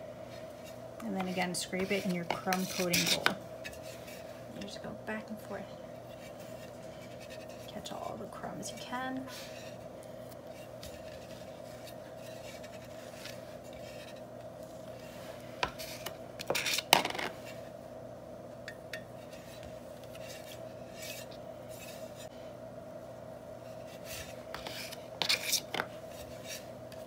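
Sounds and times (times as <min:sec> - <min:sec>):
steady hum: 0:00.0 - 0:27.0
spatula spreading buttercream: 0:00.3 - 0:04.8, 0:06.0 - 0:17.7, 0:19.2 - 0:22.3, 0:23.6 - 0:27.0.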